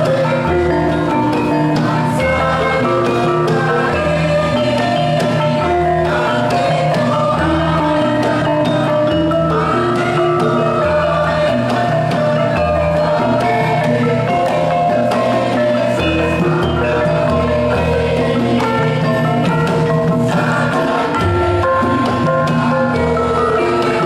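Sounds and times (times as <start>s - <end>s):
metallophones ringing: 0.0s - 24.0s.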